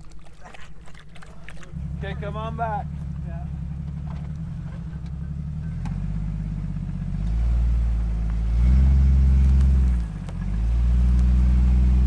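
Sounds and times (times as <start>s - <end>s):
car engine reversing: 1.6s - 12.0s.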